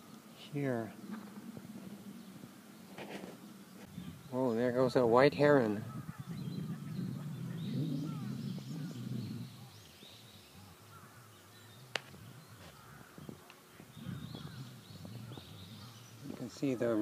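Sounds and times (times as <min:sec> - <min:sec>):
faint bird chirps: 0:00.0 - 0:05.0, 0:05.6 - 0:17.0.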